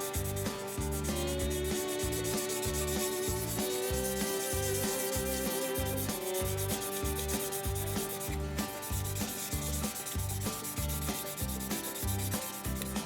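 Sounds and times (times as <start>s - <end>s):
background music: 0.0s - 13.0s
hand sanding rubbing strokes: 0.0s - 13.0s.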